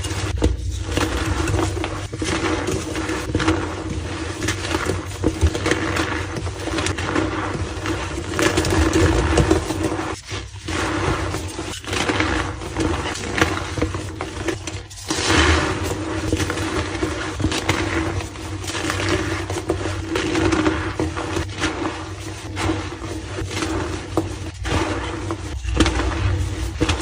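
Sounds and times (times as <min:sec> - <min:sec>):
chalk crunching and crumbling: 0:00.0 - 0:27.0.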